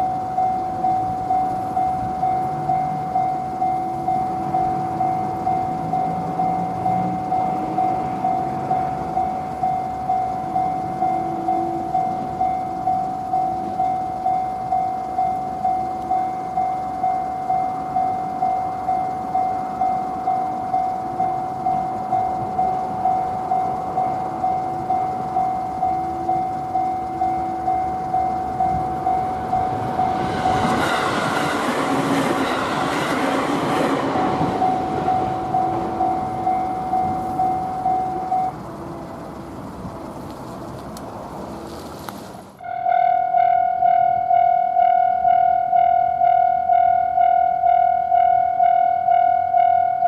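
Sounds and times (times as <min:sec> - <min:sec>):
level crossing alarm bell ringing: 0:00.0 - 0:40.2, 0:42.6 - 0:50.0
train passing: 0:00.0 - 0:50.0.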